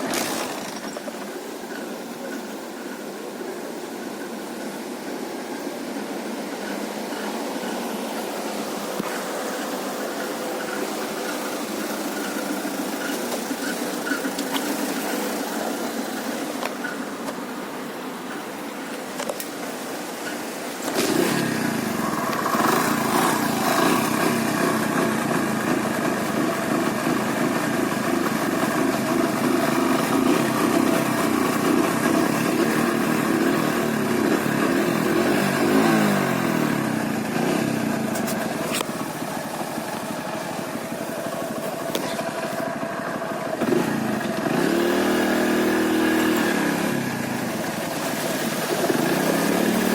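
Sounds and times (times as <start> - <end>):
scooter engine running: 0.0 - 49.9.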